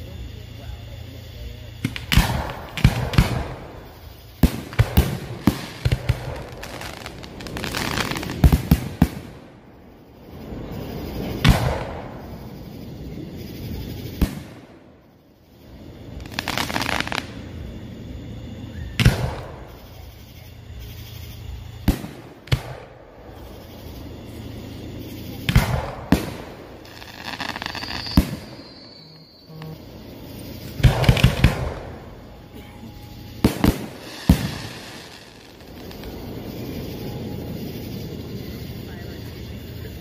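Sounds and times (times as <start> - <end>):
fireworks hiss: 0.0 - 40.0
fireworks bangs: 1.7 - 14.9, 16.1 - 17.8, 18.4 - 37.9.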